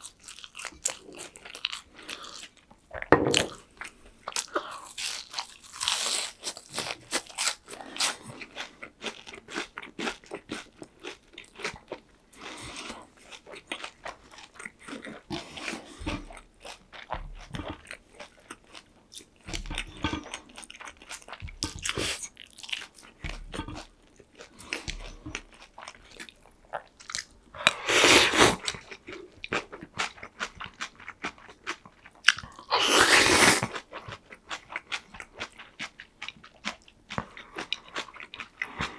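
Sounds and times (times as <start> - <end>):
crunchy chewing: 0.0 - 2.6, 3.3 - 38.9.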